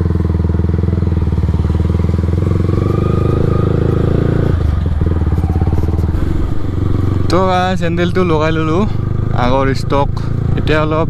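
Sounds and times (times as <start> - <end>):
motorcycle engine exhaust note: 0.0 - 11.0.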